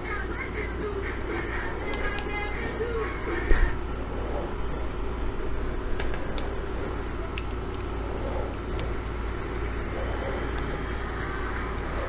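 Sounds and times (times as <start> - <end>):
window air conditioner humming: 0.0 - 12.0.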